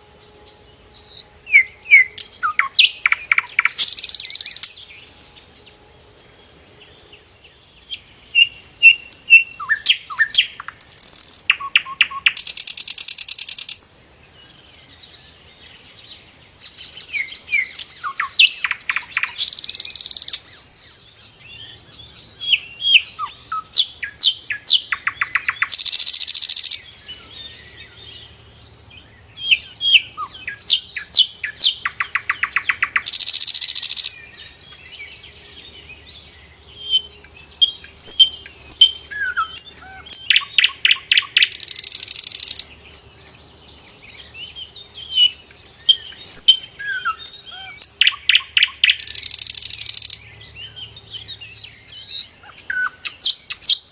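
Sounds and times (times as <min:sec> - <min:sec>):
flycatcher singing: 0:00.0 - 0:53.9.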